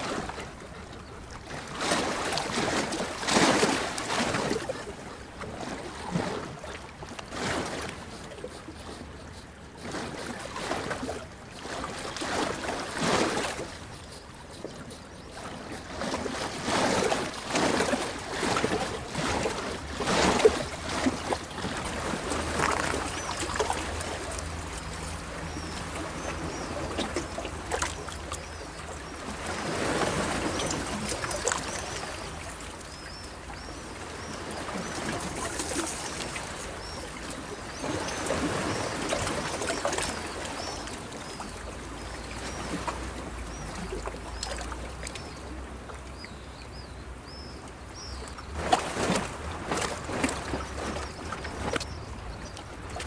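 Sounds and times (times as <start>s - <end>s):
waves washing among rocks: 1.4s - 28.6s, 29.2s - 41.4s, 48.0s - 53.0s.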